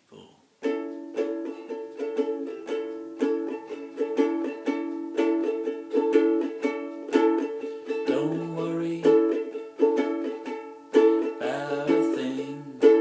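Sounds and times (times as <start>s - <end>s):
ukulele strumming: 0.6s - 13.0s.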